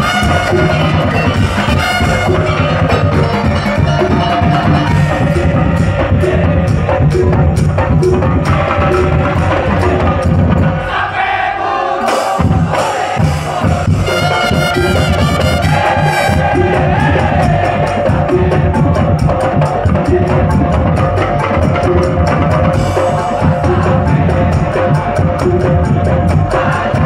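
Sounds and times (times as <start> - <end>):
low drums: 0.0 - 27.0
percussion band playing: 0.0 - 27.0
pitched percussion melody: 0.0 - 27.0.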